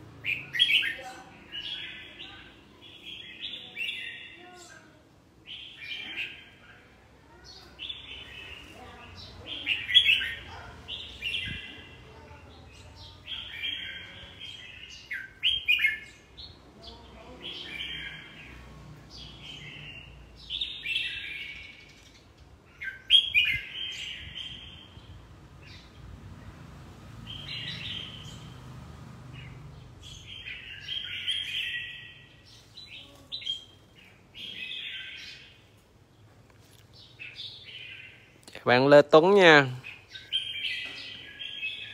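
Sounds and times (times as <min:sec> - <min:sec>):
bird singing warbled phrases: 0:00.0 - 0:41.9.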